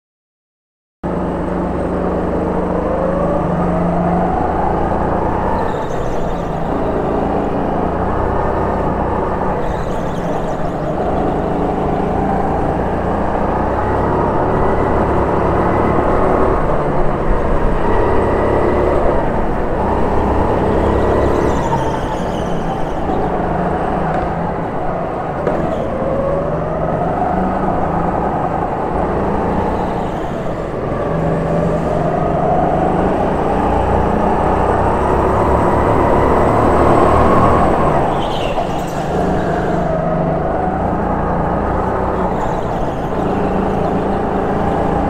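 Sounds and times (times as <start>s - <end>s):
kart motor revving: 1.2s - 45.0s.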